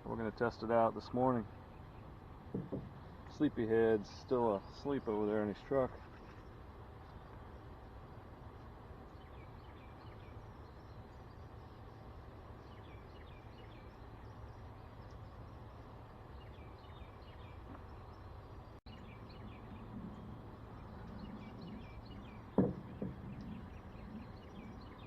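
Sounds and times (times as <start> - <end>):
birds chirping: 0.0 - 25.0
low outdoor background noise: 0.0 - 25.0.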